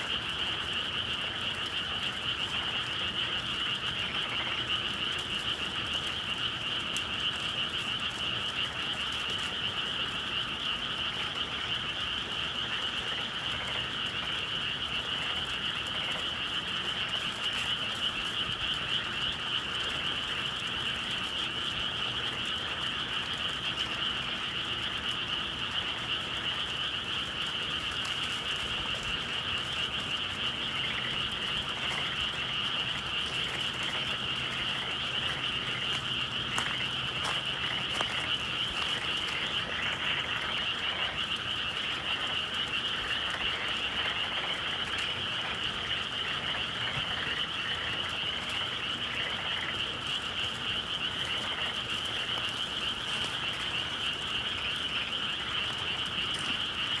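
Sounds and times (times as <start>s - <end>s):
chorus of frogs trilling: 0.0s - 57.0s.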